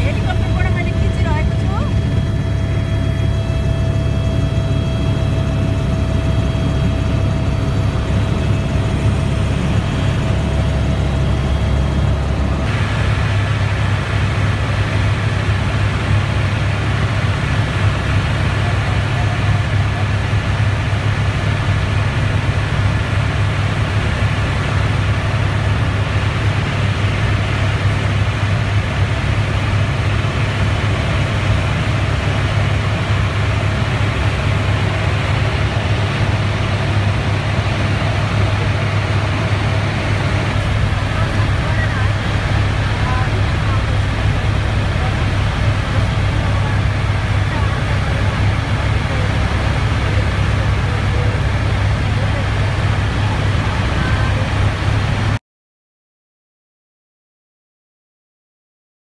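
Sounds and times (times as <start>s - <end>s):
helicopter rotor and turbine drone: 0.0s - 55.4s.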